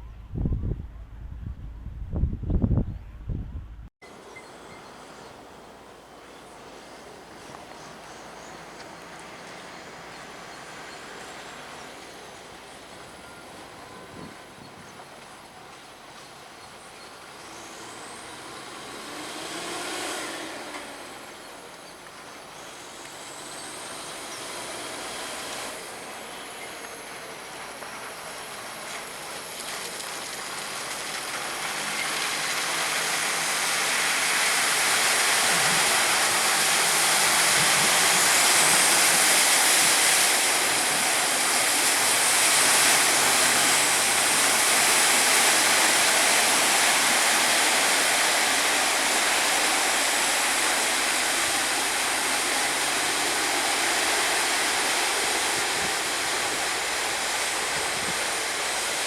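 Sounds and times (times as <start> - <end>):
rushing noise of moving vehicle: 1.8 - 59.0.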